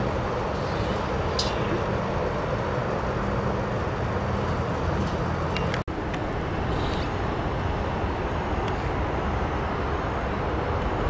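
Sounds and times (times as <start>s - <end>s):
distant jet engines roaring: 0.0s - 11.0s.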